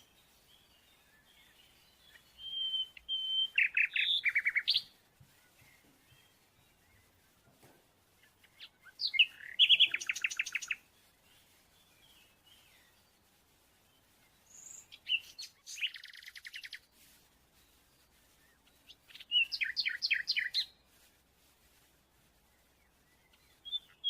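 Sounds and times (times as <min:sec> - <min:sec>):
small bird singing: 0:00.0 - 0:07.4, 0:08.0 - 0:24.0.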